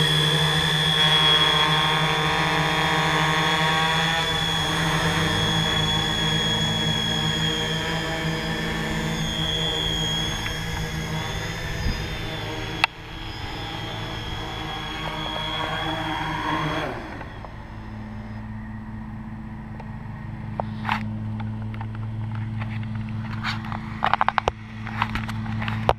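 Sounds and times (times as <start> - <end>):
drone propellers humming: 0.0 - 25.9.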